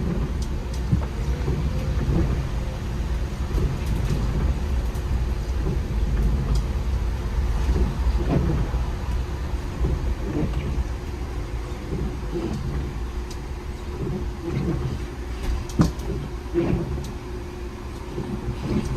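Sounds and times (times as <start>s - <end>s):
faint clicks and rattles: 0.0s - 17.2s
bus engine and road rumble: 0.0s - 18.9s.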